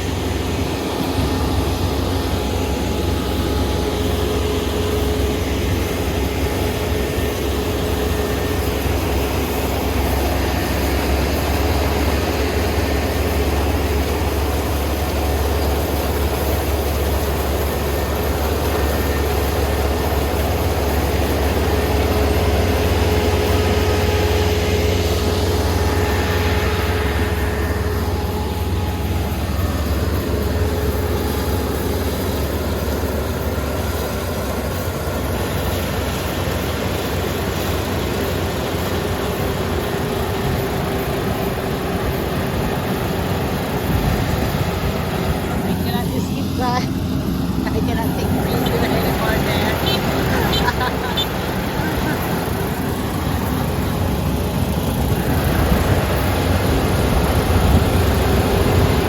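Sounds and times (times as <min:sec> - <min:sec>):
combine harvester engine hum: 0:00.0 - 0:59.0
high machine whine: 0:00.0 - 0:59.0.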